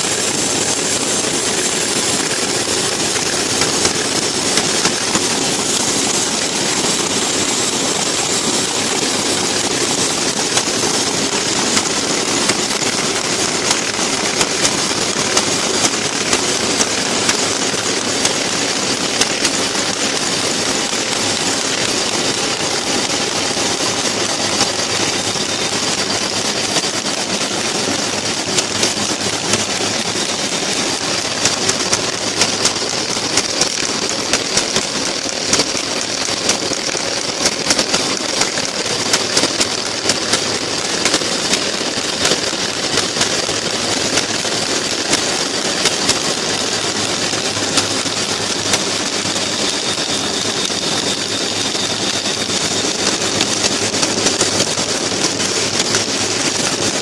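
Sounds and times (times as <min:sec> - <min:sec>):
folding machine whir: 0:00.0 - 0:57.0
sharp machine clicks: 0:00.0 - 0:57.0.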